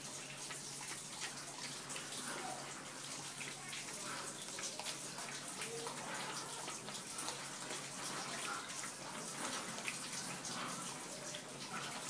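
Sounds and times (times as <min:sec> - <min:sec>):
puppy lapping milk: 0:00.0 - 0:12.0.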